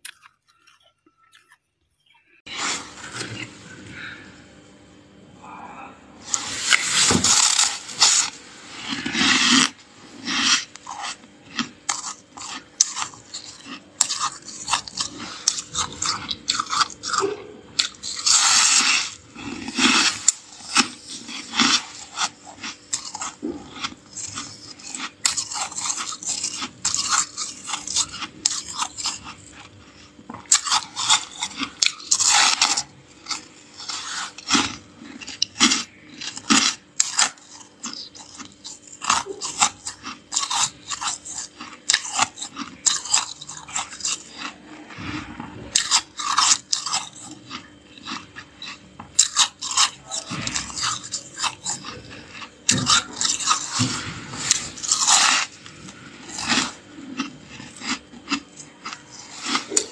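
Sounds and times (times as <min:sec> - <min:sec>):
crunching and chewing frost: 0:00.0 - 0:59.9.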